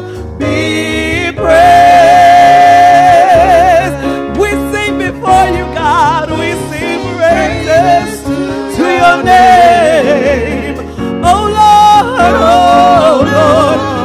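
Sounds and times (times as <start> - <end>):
instrumental accompaniment: 0.0 - 14.0
women singing gospel: 0.0 - 14.0.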